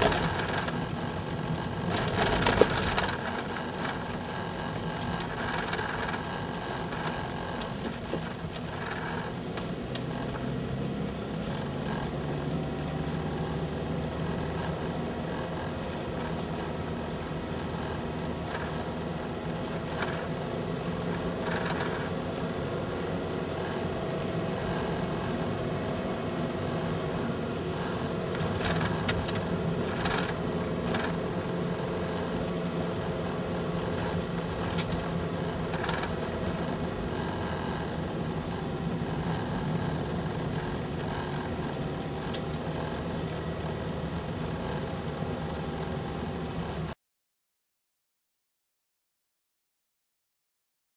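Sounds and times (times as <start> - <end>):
road noise: 0.0 - 47.0
vehicle engine hum: 0.0 - 47.0.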